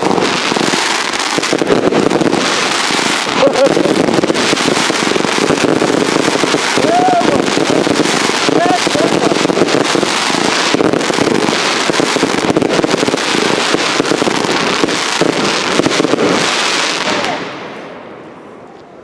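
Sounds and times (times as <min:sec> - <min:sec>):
fireworks crackling: 0:00.0 - 0:19.0.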